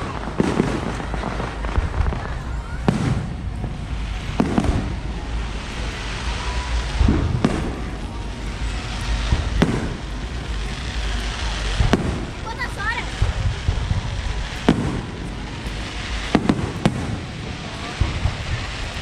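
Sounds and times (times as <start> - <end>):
fireworks bangs: 0.0 - 19.0
steady low rumble: 0.0 - 19.0.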